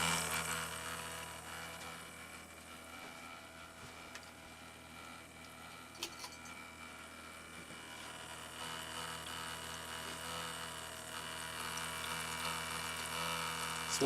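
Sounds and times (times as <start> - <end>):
fountain pump buzzing hum: 0.0 - 14.0.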